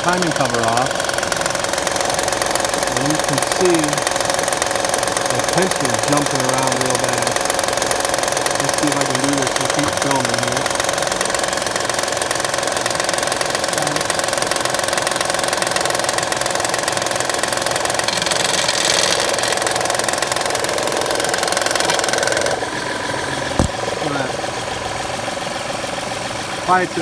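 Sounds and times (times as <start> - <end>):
engine knocking rattle: 0.0 - 27.0.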